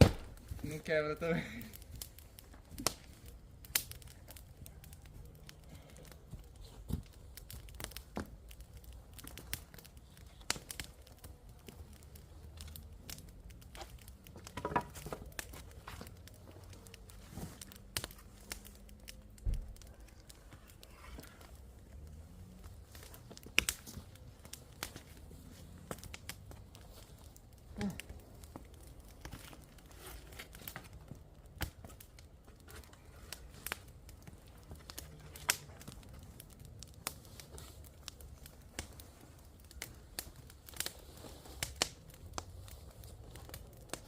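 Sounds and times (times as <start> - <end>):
rustling of firewood: 0.0 - 44.0
sticks snapping and crackling: 0.0 - 44.0.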